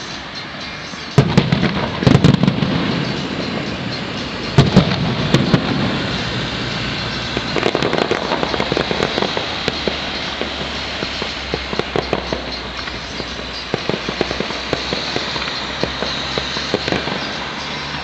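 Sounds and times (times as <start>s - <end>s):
firework bangs: 0.0s - 18.0s
firework crackling: 0.0s - 18.0s.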